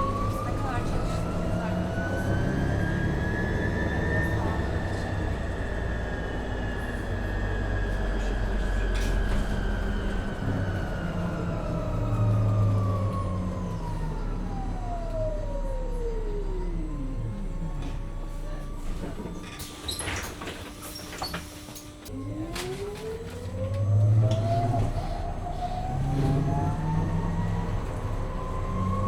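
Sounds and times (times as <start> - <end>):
bus drivetrain rumble: 0.0 - 29.0.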